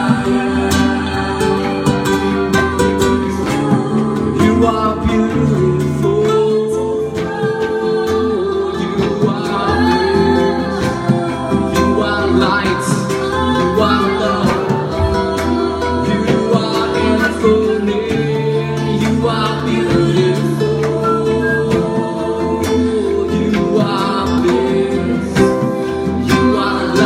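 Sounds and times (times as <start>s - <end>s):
acoustic guitar playing: 0.0s - 27.0s
person singing: 0.0s - 27.0s.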